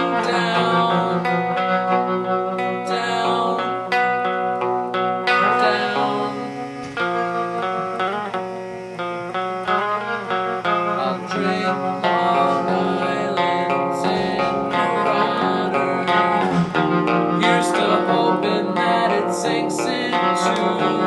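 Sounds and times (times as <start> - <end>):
instrumental guitar music: 0.0 - 21.0.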